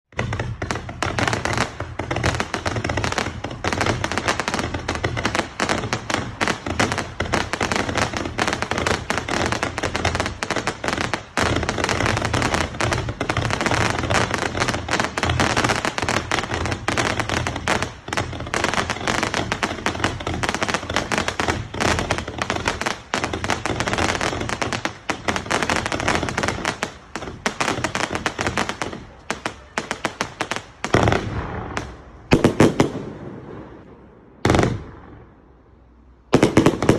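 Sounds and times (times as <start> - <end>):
fireworks cake firing rapid shots: 0.1 - 35.2, 36.2 - 36.9.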